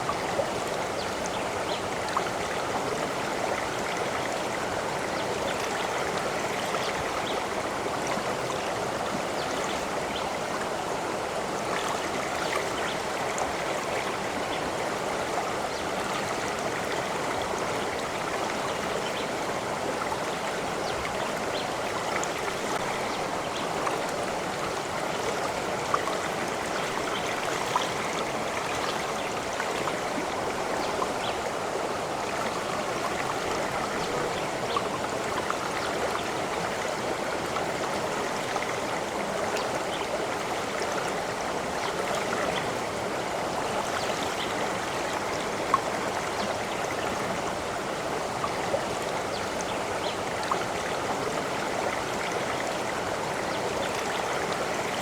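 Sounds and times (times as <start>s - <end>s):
stream flowing over stones: 0.0s - 55.0s.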